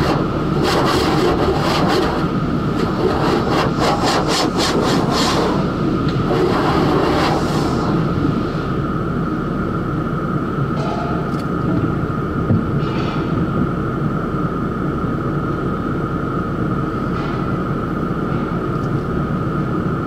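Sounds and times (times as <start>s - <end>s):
car wash machinery drone: 0.0s - 20.0s
constant machinery whine: 0.0s - 20.0s.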